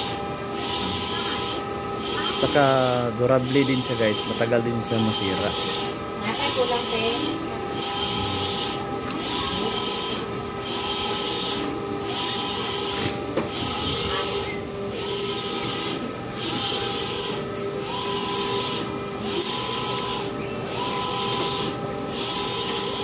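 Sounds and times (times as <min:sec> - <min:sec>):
printer carriage whirring: 0:00.0 - 0:23.0
steady motor whine: 0:00.0 - 0:23.0.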